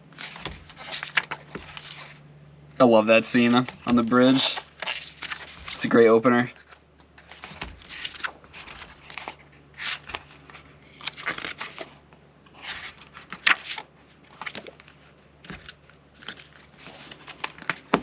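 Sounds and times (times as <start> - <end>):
pages turning and rustling: 0.1 - 2.2, 3.4 - 18.0.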